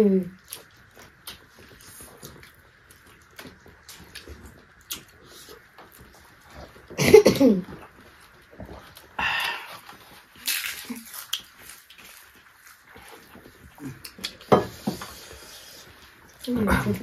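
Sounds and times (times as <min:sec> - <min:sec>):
chewing: 0:00.3 - 0:07.0, 0:07.6 - 0:17.0.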